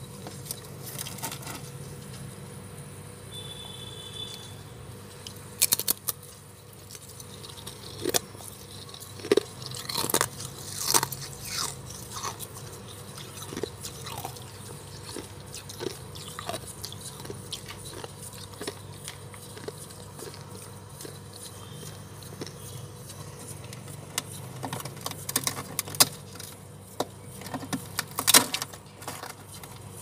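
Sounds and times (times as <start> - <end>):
ice crunching while chewed: 5.0 - 30.0.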